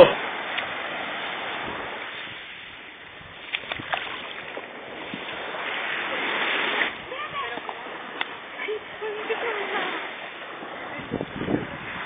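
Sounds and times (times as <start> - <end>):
surf washing on beach: 0.0 - 12.0
wind on microphone: 0.0 - 12.0.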